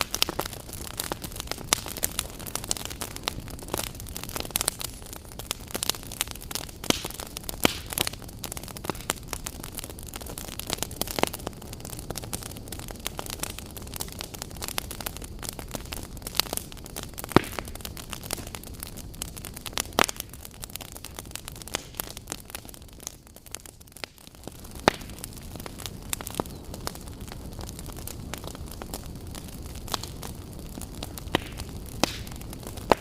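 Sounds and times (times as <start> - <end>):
fire crackling and popping: 0.0 - 33.0
wood fire burning: 0.0 - 33.0.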